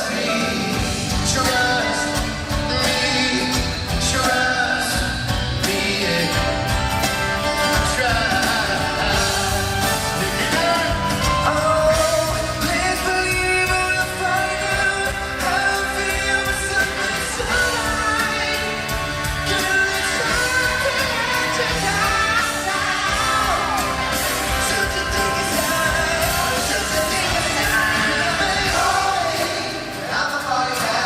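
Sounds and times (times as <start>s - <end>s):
band playing: 0.0s - 31.0s
male vocal group singing: 0.0s - 31.0s.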